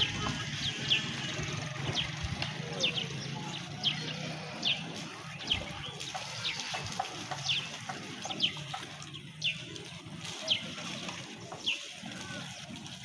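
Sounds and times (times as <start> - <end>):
bird chirping: 0.1 - 12.4.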